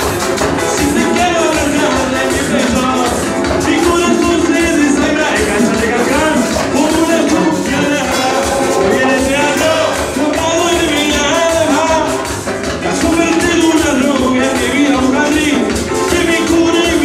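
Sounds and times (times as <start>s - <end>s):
hand drums: 0.0s - 17.0s
latin dance band playing: 0.0s - 17.0s
man singing into a microphone: 0.0s - 17.0s
shaken percussion: 0.0s - 17.0s.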